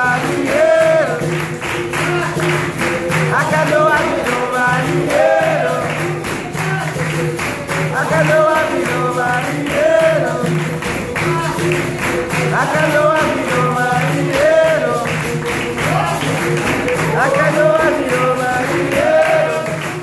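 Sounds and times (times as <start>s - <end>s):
berimbaus playing: 0.0s - 20.0s
group singing: 0.0s - 20.0s
hand clapping: 0.0s - 20.0s
hand drum playing: 0.0s - 20.0s.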